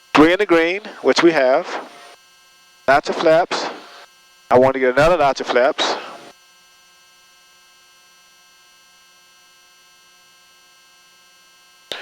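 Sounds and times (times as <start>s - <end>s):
faint electrical buzz: 0.0s - 12.0s.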